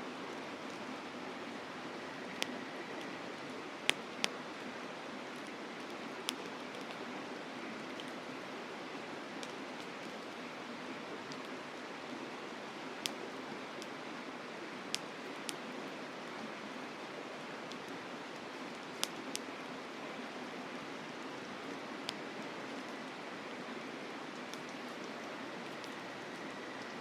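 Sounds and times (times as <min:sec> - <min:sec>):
campfire crackling: 0:00.2 - 0:27.0.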